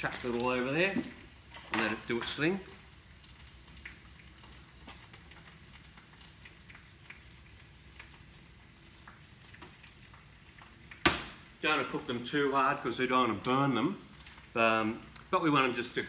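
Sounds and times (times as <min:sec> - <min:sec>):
mushrooms sizzling in a pan: 0:00.0 - 0:16.0.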